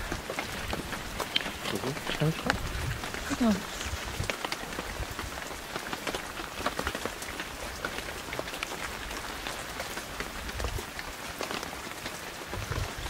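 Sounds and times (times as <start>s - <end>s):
raindrops ticking: 0.0s - 13.0s
steady rain falling: 0.0s - 13.0s.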